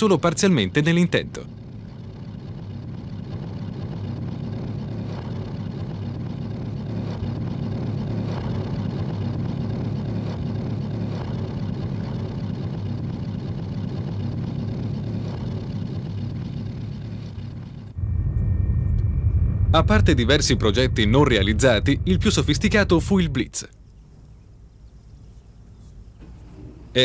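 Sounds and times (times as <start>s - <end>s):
propeller aircraft engines droning: 0.0s - 27.0s.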